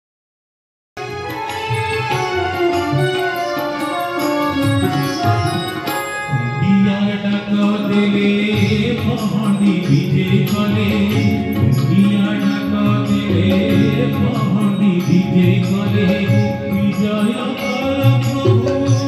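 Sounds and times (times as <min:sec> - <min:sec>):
devotional music melody: 0:01.0 - 0:19.0.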